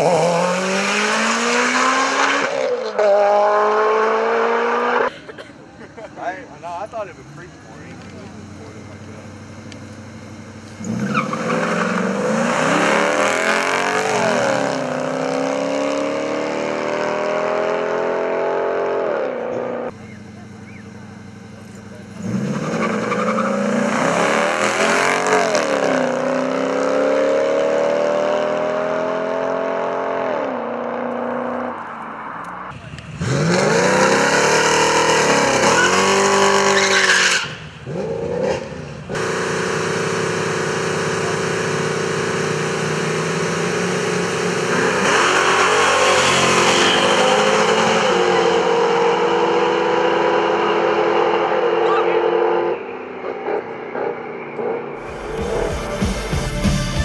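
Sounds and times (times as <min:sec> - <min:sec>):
car engines revving with gear changes: 0:00.0 - 0:56.4.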